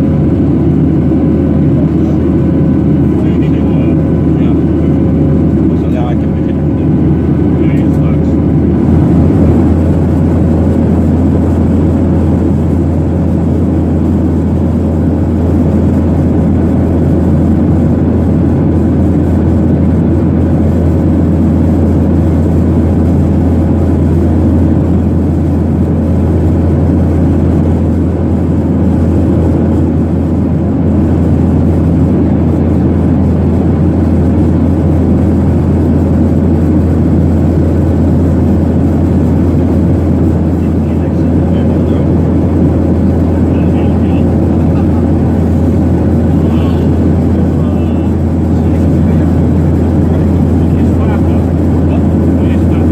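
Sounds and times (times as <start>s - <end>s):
jet engine drone: 0.0s - 52.9s.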